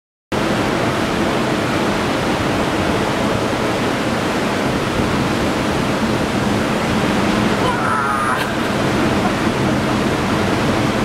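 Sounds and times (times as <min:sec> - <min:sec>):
ocean surf breaking: 0:00.4 - 0:11.0.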